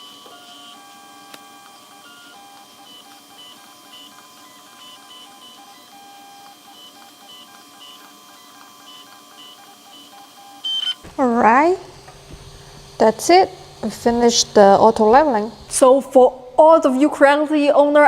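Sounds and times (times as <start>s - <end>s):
stepper motors whining: 0.0s - 17.1s.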